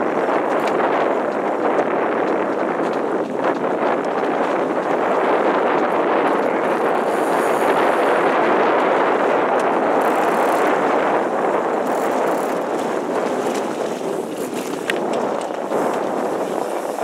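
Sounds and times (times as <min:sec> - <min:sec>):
water rushing past a boat: 0:00.0 - 0:17.0
wind on the microphone: 0:00.0 - 0:17.0.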